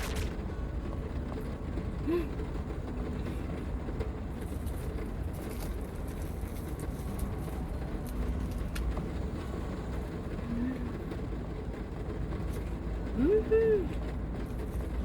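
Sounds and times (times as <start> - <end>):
heavy rain drumming on roof: 0.0 - 15.0.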